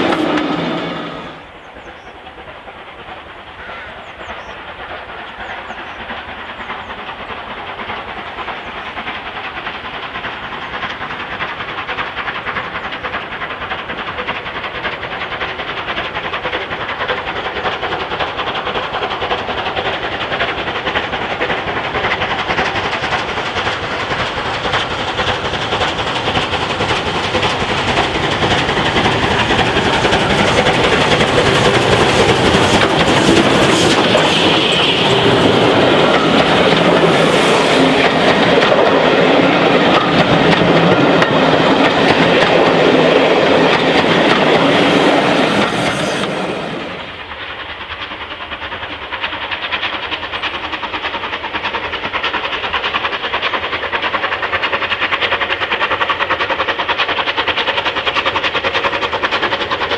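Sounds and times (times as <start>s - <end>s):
steam locomotive working: 0.0s - 59.9s
train wheels over rail joints: 0.0s - 59.9s.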